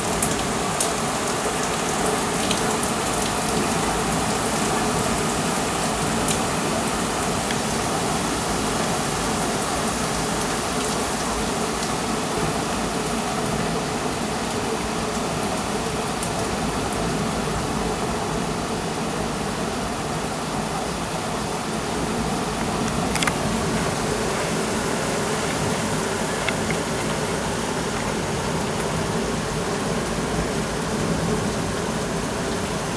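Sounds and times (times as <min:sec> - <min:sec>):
heavy rain pouring: 0:00.0 - 0:32.9.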